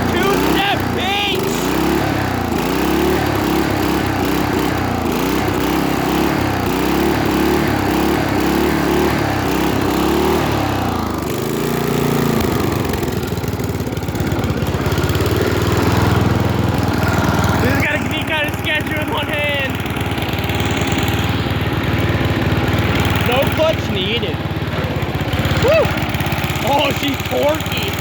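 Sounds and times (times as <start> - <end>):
lawnmower engine running: 0.0 - 28.0.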